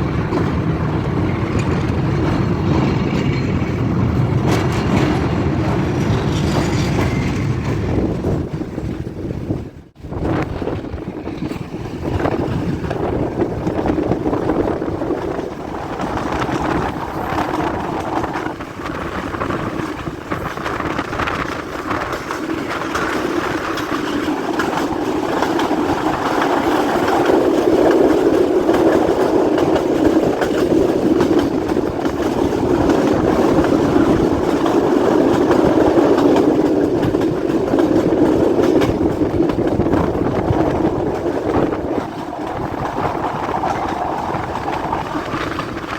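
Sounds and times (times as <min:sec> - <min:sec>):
train wheels clattering on rails: 0:00.0 - 0:45.9.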